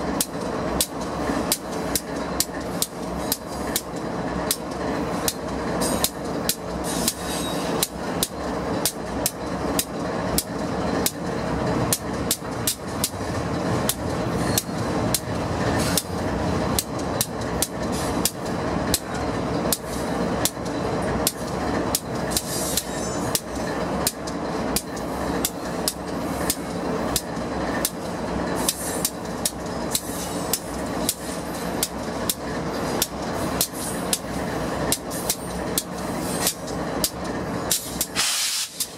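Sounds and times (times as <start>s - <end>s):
freight train rumble and hum: 0.0s - 38.9s
train wheels clicking over track: 0.0s - 38.9s.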